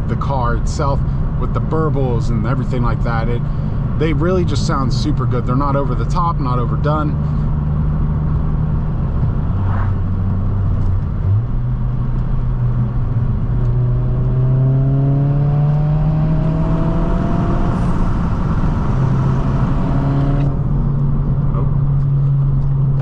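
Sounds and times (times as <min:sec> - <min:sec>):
car engine droning while driving: 0:00.0 - 0:23.0.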